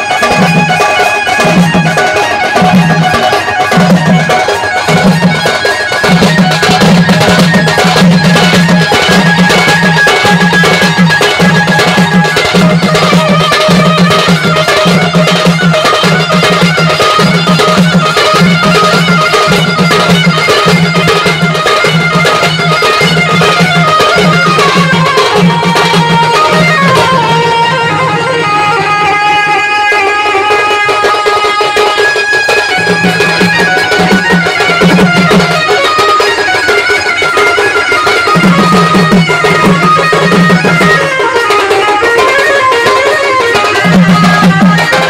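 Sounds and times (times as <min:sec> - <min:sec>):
drums beaten with sticks: 0:00.0 - 0:45.0.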